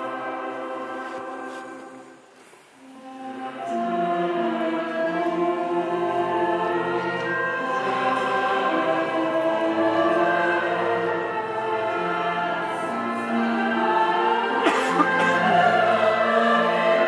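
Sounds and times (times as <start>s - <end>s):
choir singing long chords: 0.0s - 17.0s.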